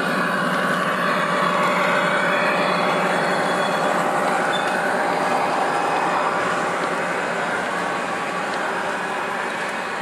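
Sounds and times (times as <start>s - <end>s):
model trains on rails: 0.0s - 10.0s.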